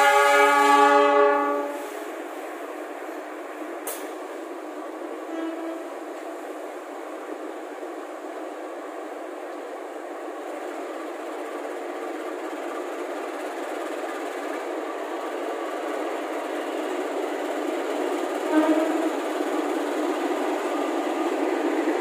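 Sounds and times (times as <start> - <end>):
train engine and wheels rolling: 0.0 - 22.0.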